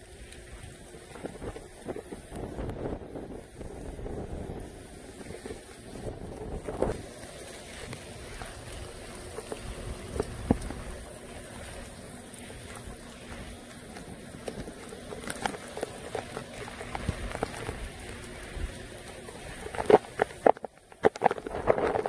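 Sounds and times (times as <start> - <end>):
rain falling steadily: 0.0 - 22.0
raindrops hitting surfaces: 0.0 - 22.0.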